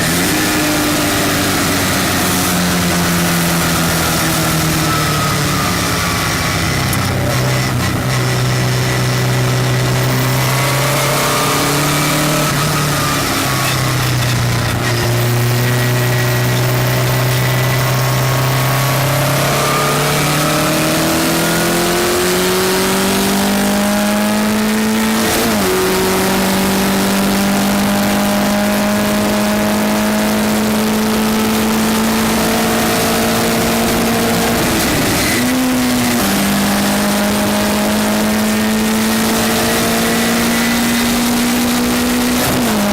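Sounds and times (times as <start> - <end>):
gear change: 0.0 - 42.9
race car engine pulling hard: 0.0 - 42.9
wind and road noise: 0.0 - 42.9.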